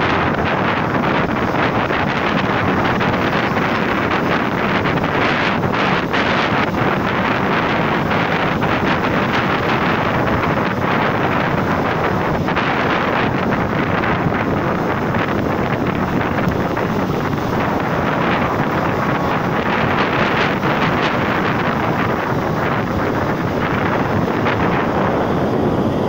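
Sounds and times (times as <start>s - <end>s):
ocean surf breaking: 0.0s - 26.0s
wind on microphone: 0.0s - 26.0s.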